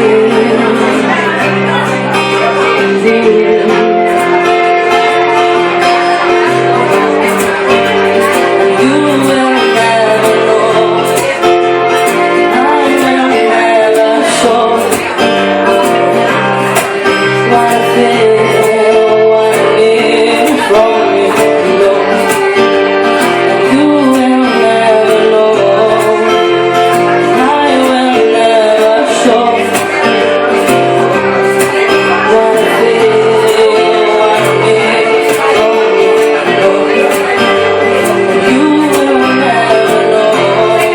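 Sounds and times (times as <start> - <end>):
strummed guitar: 0.0 - 40.9
violin: 0.0 - 40.9
woman singing: 0.0 - 40.9.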